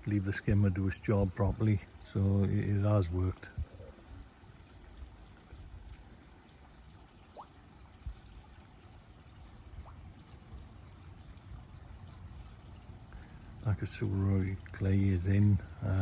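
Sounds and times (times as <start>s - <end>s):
water pouring into a pond: 0.0s - 16.0s.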